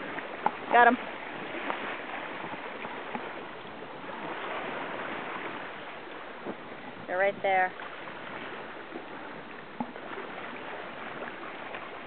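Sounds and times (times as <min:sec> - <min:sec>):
water rushing along boat bow: 0:00.0 - 0:12.0.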